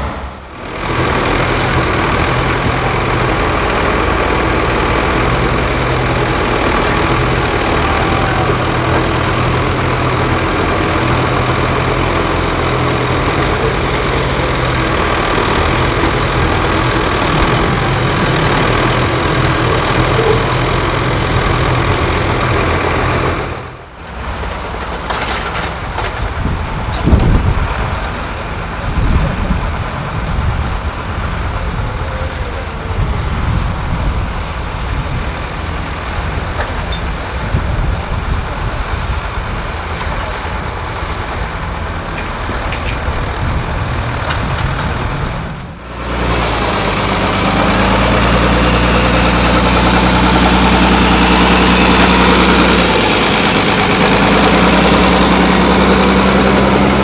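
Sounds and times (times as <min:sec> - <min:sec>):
diesel engine idling: 0:00.0 - 0:25.1, 0:25.7 - 0:57.0.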